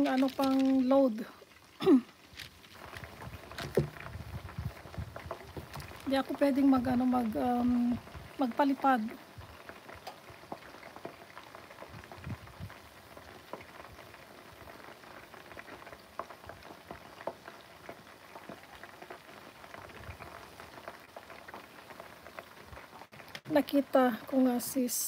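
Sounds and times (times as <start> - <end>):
wings deep-frying in oil: 0.0 - 25.0.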